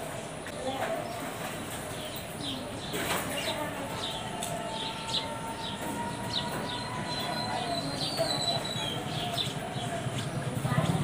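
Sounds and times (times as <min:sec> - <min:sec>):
sparrows chirping: 0:00.5 - 0:11.0.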